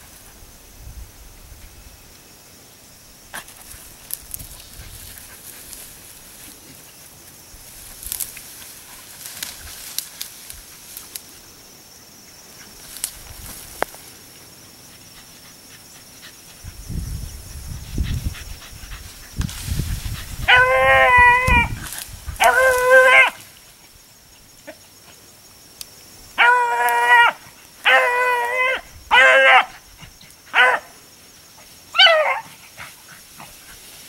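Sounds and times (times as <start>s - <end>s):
rustling in grass and brush: 0.0s - 29.1s, 29.8s - 34.0s.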